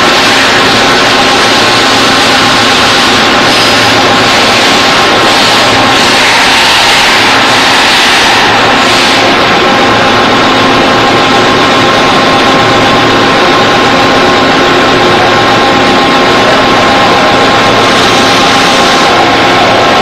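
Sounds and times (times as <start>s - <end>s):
boring mill mechanical noise: 0.0s - 20.0s
thin steady whine: 0.0s - 20.0s.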